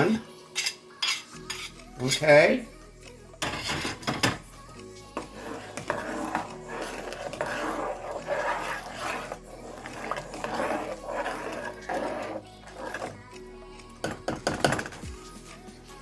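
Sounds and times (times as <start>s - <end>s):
spoon stirring and scraping pot: 0.0s - 2.4s, 3.4s - 15.5s.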